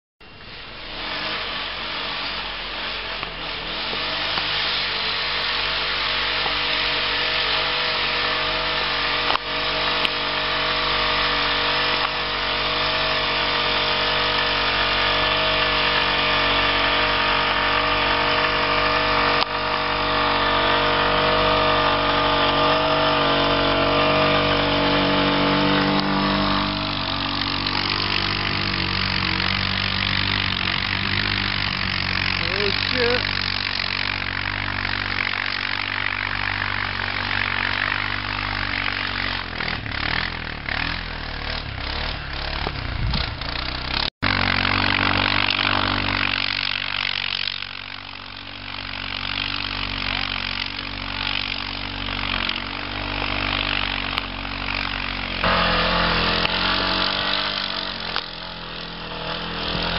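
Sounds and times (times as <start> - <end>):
quad engine running under load: 0.2 - 59.9.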